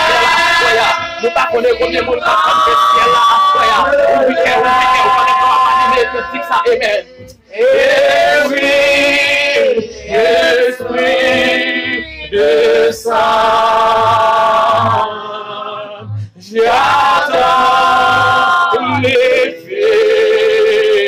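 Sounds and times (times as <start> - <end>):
voices singing worship song: 0.0 - 21.0.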